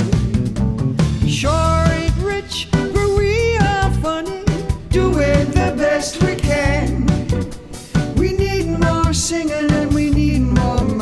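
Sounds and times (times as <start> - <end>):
song with band and guitar: 0.0 - 11.0.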